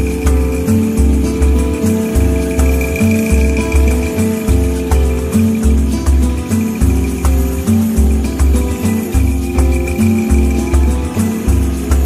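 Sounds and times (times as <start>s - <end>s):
music with deep pulsing bass: 0.0s - 12.0s.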